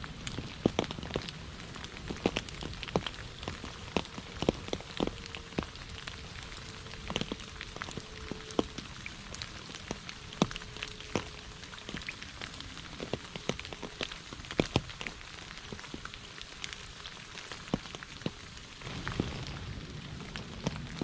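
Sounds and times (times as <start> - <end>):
heavy rain falling: 0.0 - 21.0
raindrops striking close by: 0.0 - 21.0.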